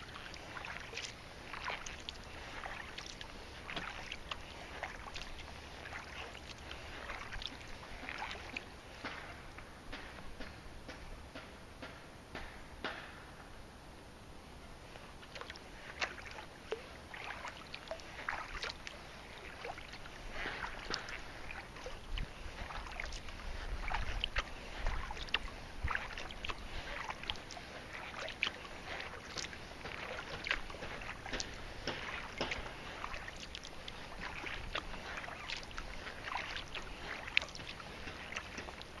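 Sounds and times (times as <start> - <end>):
paddle splashing in water: 0.0 - 13.1, 14.8 - 39.0.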